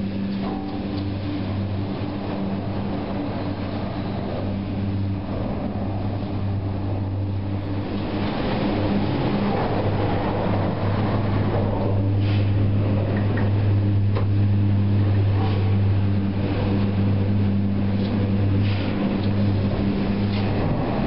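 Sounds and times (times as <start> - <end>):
gondola station mechanical hum: 0.0 - 21.0.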